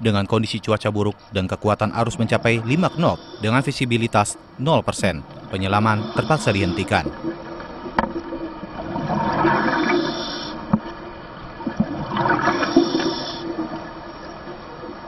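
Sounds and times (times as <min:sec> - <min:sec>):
faint steady hum: 0:00.0 - 0:15.0
underwater air bubbling: 0:01.1 - 0:15.0.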